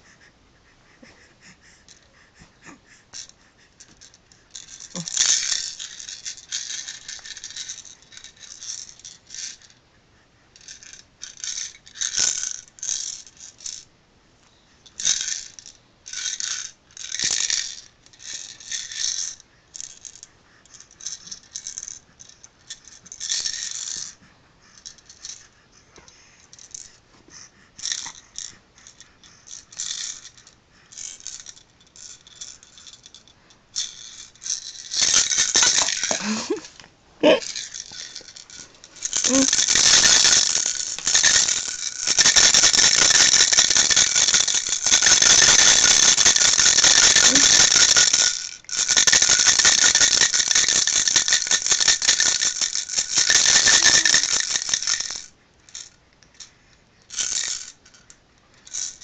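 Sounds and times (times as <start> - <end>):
toy maraca rattling: 1.0 - 9.8, 10.6 - 13.9, 14.8 - 59.0.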